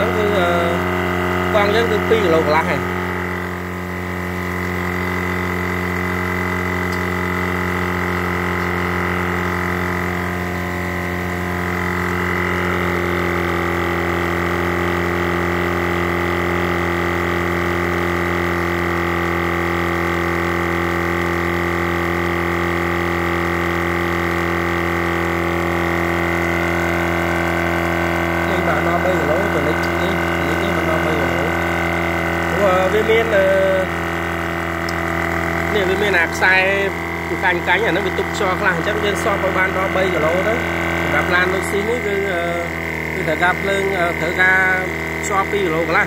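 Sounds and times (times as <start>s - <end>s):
air compressor running: 0.0s - 46.0s.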